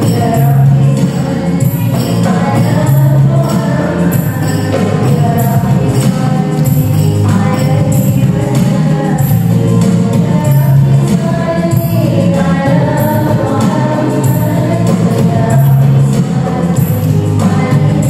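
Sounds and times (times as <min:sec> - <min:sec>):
frame drums with jingles: 0:00.0 - 0:18.0
keyboard melody: 0:00.0 - 0:18.0.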